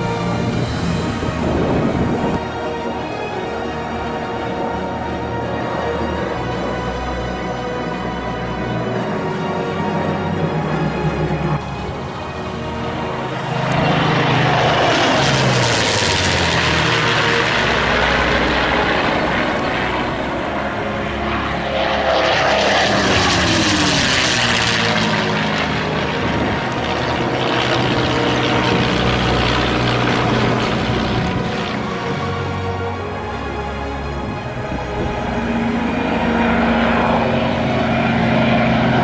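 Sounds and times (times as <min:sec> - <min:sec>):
propeller aircraft flying past: 0:00.0 - 0:39.0.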